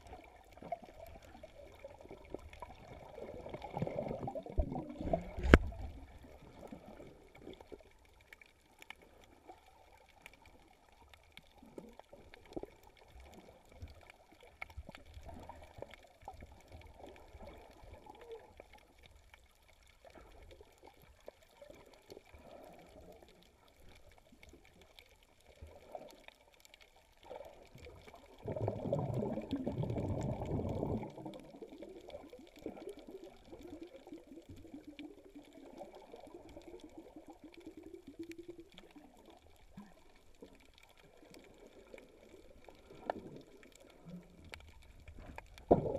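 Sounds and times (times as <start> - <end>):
muffled underwater water noise: 0.0 - 45.9.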